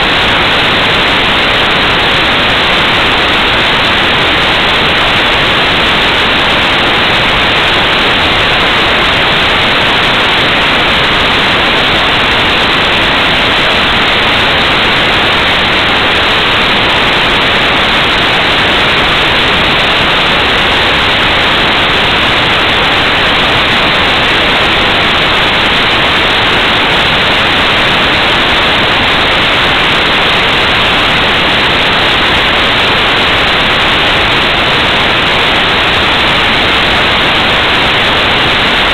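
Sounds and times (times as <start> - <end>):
loud steady static hiss: 0.0 - 38.9.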